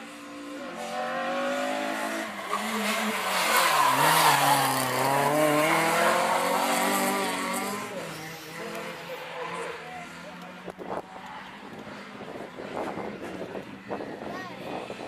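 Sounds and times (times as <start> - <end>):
race car engine revving: 0.0 - 13.8.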